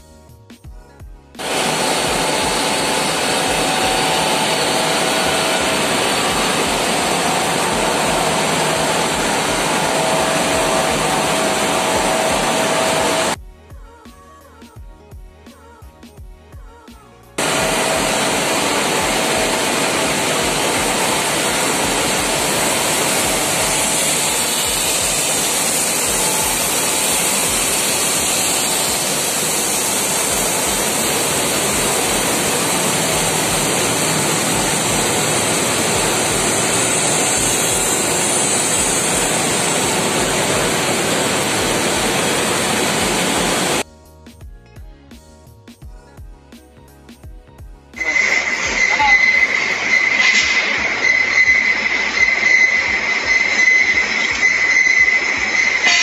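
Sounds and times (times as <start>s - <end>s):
machine hissing: 1.4s - 13.4s, 17.4s - 43.8s, 48.0s - 56.0s.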